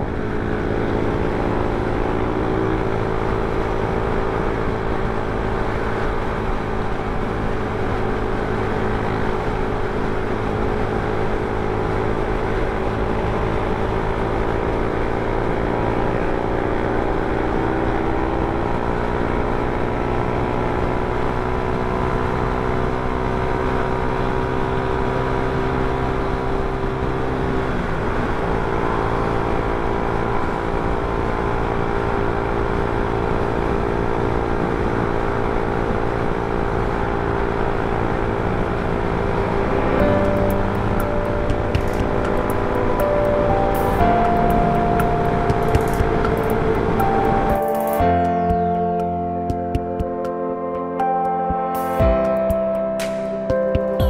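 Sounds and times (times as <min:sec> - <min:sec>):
motor scooter engine running: 0:00.0 - 0:50.3
wind and road noise: 0:00.0 - 0:54.0.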